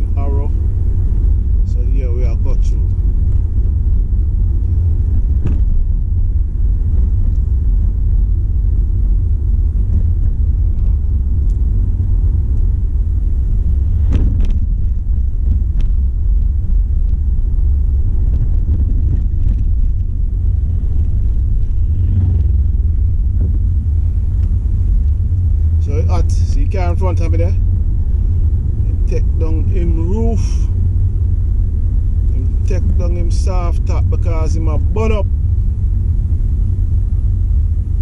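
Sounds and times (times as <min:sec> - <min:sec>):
car rumble from inside cabin: 0:00.0 - 0:38.0.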